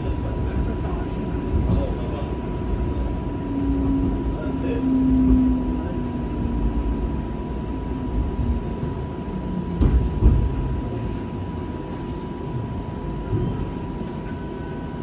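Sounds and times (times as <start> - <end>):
streetcar rumbling: 0.0 - 15.0.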